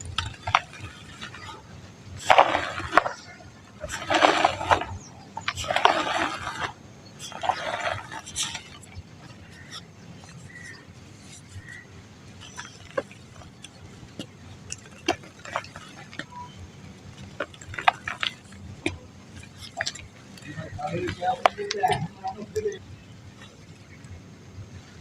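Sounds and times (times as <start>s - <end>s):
dry mud crumbling: 0.0s - 24.0s.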